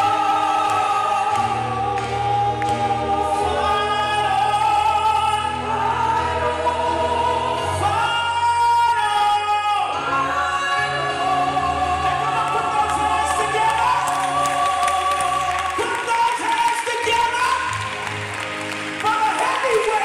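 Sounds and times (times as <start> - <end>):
women singing in harmony: 0.0 - 16.2.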